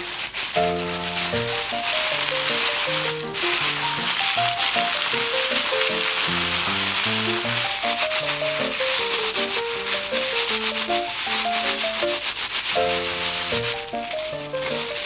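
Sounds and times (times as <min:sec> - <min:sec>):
dry seaweed sheets crackling: 0:00.0 - 0:15.0
plastic bag crinkling: 0:00.0 - 0:15.0
simple melody: 0:00.6 - 0:15.0.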